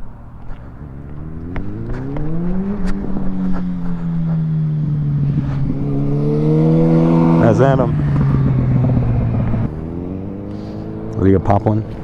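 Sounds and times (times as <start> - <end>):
motorcycle engine approaching: 0.0 - 12.0.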